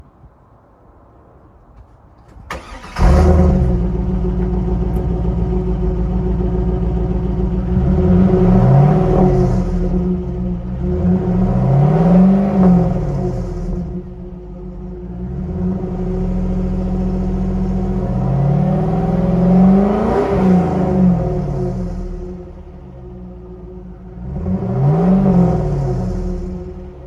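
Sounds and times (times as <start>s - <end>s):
car engine starting and idling: 1.7s - 27.0s
car engine revving: 2.5s - 27.0s.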